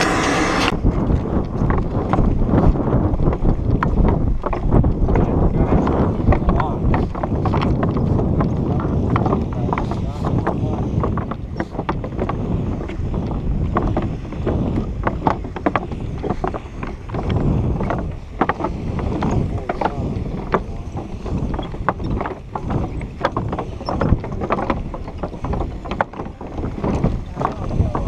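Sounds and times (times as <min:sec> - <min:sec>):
footsteps on wooden boardwalk: 0:00.0 - 0:28.0
wind buffeting microphone: 0:00.0 - 0:28.0.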